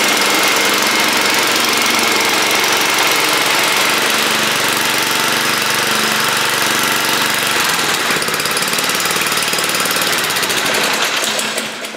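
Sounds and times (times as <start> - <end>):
lawn mower engine running: 0.0 - 11.9.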